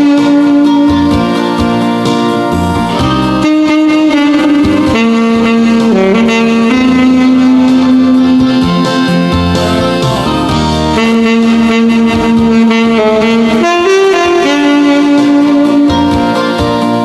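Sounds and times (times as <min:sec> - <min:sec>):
alto saxophone melody: 0:00.0 - 0:17.0
recorded accompaniment: 0:00.0 - 0:17.0.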